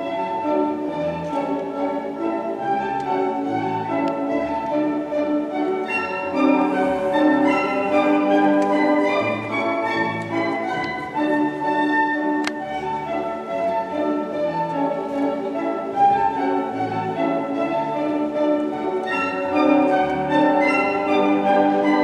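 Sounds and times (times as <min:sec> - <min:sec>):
orchestral ballet music: 0:00.0 - 0:22.0.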